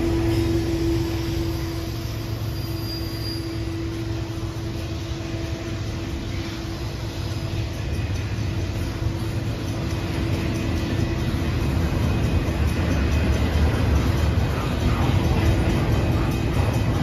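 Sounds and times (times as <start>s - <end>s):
crossing bell ringing: 0.0s - 17.0s
train wheels rumbling on rails: 0.0s - 17.0s.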